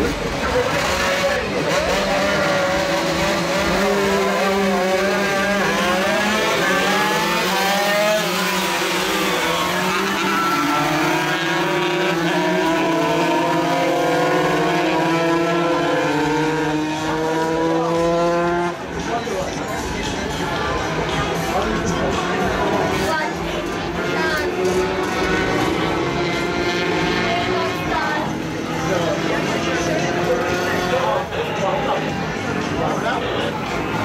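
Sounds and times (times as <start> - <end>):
racing motorcycles accelerating: 0.0 - 34.0.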